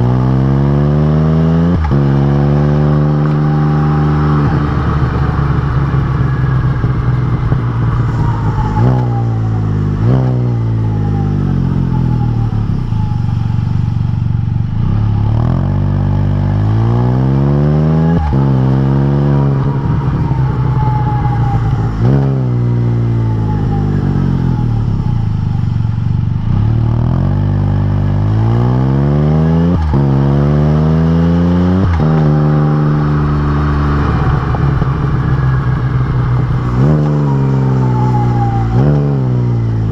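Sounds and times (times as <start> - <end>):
motorcycle engine accelerating and shifting: 0.0 - 39.9.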